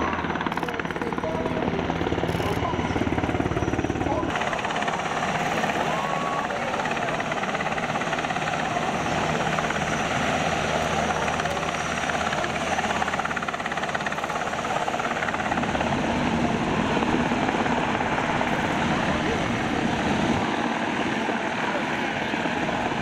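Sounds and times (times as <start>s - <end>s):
helicopter engines running: 0.0s - 23.0s
helicopter rotor chopping: 0.0s - 23.0s.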